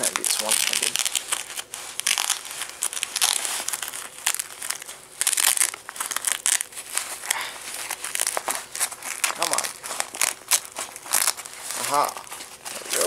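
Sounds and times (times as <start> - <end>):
fabric sack rustling: 0.0 - 13.0.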